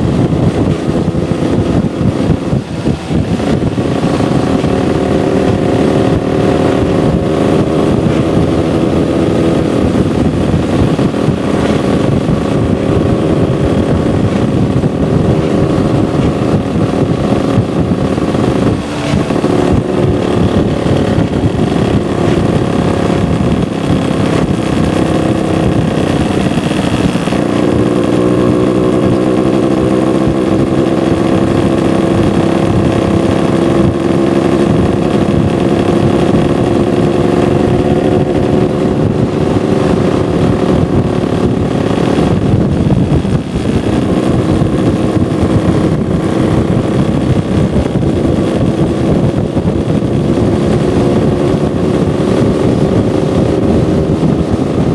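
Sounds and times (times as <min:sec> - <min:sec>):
scooter engine running: 0:00.0 - 0:54.9
wind buffeting microphone: 0:00.0 - 0:54.9.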